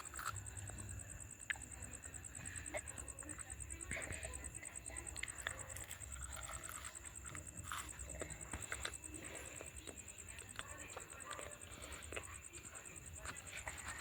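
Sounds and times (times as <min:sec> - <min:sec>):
insects chirping: 0:00.0 - 0:14.0
small clicks and crackles: 0:00.0 - 0:14.0.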